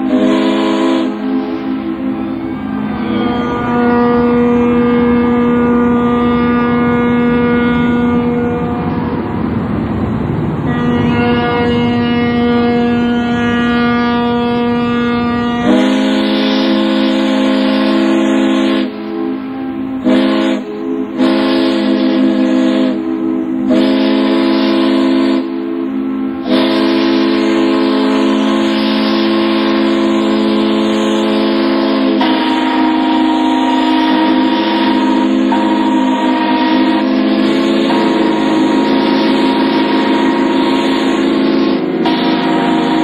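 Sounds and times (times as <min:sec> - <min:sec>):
ship steam whistles blowing: 0:00.0 - 0:09.4, 0:10.6 - 0:43.0.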